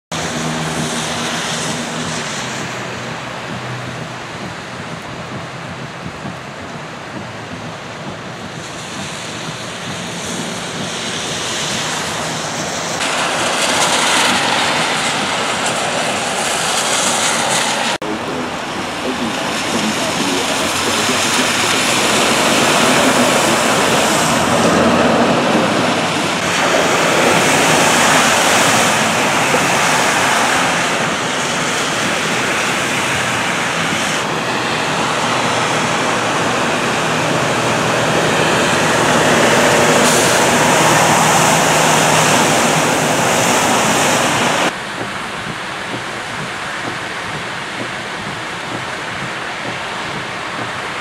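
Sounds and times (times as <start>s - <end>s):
car tyres splashing through water: 0.1s - 51.0s
rushing water: 0.1s - 51.0s
steady rain: 0.1s - 51.0s.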